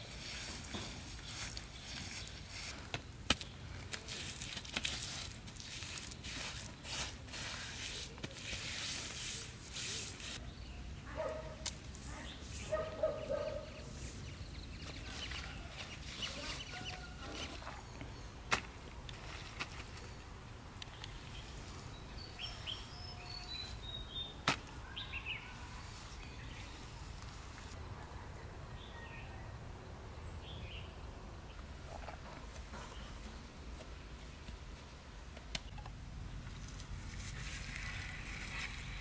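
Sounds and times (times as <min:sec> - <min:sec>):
leaves rustling: 0:00.0 - 0:28.0, 0:31.7 - 0:39.0.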